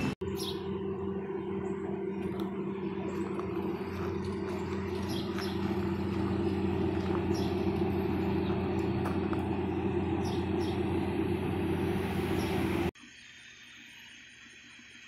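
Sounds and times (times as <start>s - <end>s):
birds chirping: 0.0s - 12.9s
diesel engine idling: 0.0s - 13.0s.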